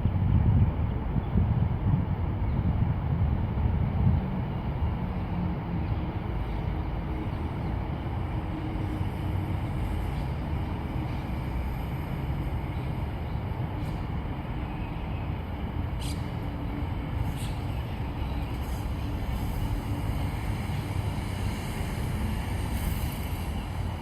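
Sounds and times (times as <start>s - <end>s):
low rumbling outdoor noise: 0.0s - 24.0s.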